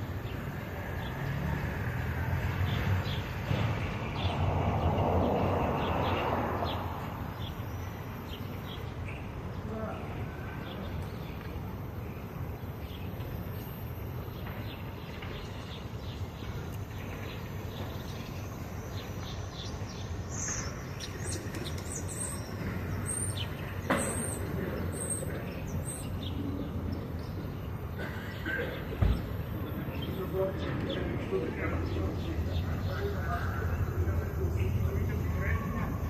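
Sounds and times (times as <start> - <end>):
sparrows chirping: 0.0 - 36.0.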